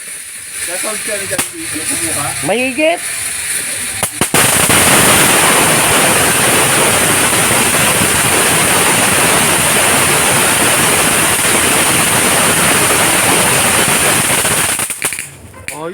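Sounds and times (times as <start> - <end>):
firework fountain hissing: 0.0 - 15.9.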